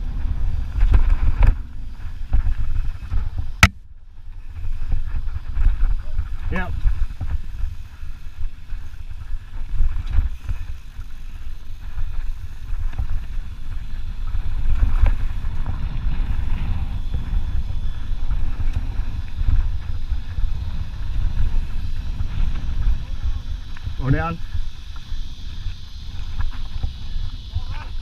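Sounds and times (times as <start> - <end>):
bike tyres rolling on rocks: 0.0 - 28.0
wind buffeting microphone: 0.0 - 28.0.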